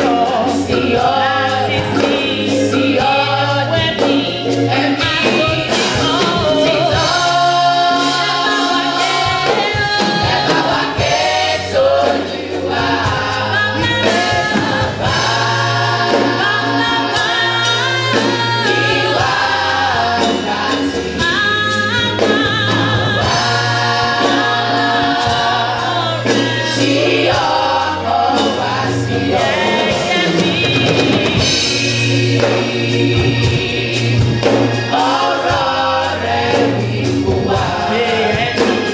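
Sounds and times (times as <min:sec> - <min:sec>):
bass line: 0:00.0 - 0:38.9
gospel choir singing: 0:00.0 - 0:38.9.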